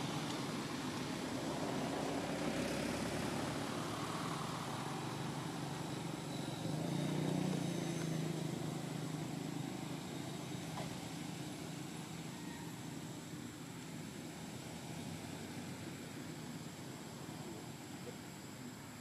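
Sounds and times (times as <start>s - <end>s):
distant engine rumbling: 0.0s - 18.9s.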